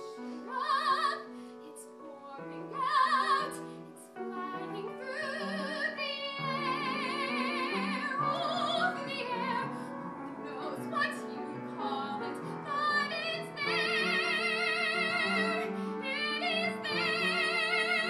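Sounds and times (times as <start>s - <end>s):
upright piano: 0.0s - 18.0s
woman singing operatically: 0.0s - 18.0s.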